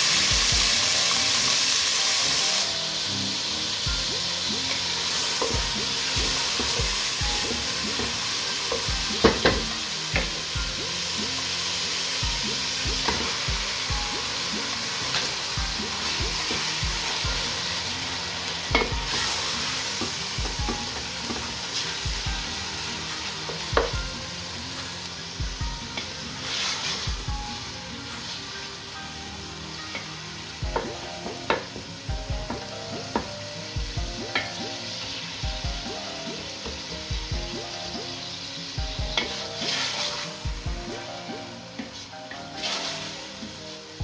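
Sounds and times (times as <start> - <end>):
food sizzling in a pot: 0.0 - 44.0.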